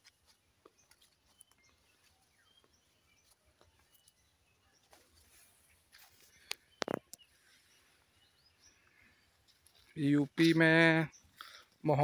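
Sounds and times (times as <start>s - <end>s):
faint forest ambience: 0.0s - 12.0s
soft bird chirps: 0.0s - 12.0s.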